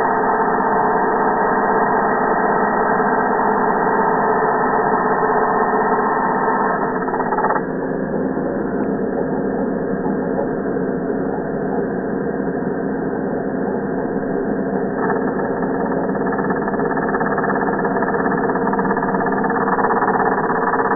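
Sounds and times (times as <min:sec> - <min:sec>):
slowed angle grinder drone: 0:00.0 - 0:11.4, 0:14.2 - 0:20.9.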